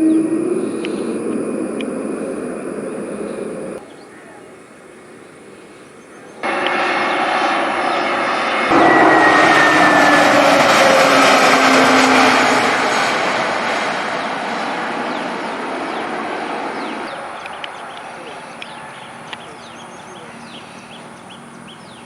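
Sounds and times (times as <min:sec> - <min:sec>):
jet airliner taking off: 0:00.0 - 0:03.8, 0:05.1 - 0:22.0.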